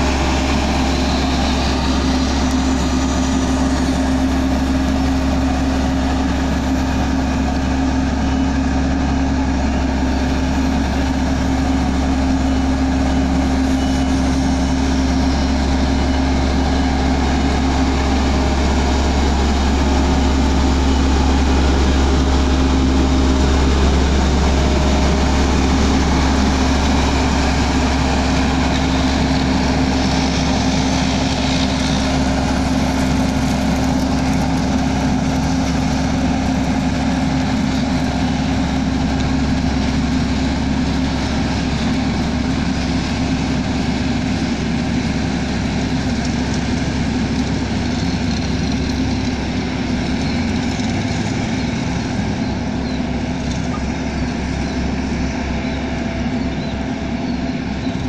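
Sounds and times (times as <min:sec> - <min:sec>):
asphalt roller diesel engine: 0:00.0 - 0:58.0.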